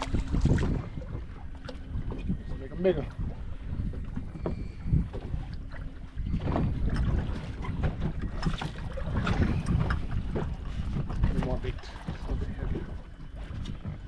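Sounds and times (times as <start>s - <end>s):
water slapping hull: 0.0s - 14.0s
wind buffeting microphone: 0.0s - 14.0s.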